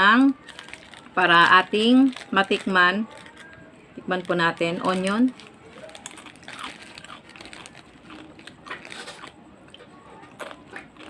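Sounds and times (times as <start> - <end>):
chips crunching while chewed: 0.4 - 3.6, 4.2 - 11.0.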